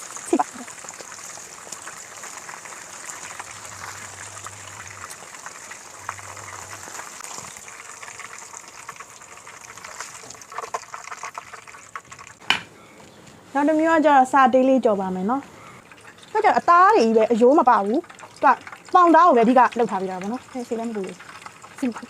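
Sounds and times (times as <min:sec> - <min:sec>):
chicken frying in hot oil: 0:00.0 - 0:12.4, 0:15.6 - 0:22.0.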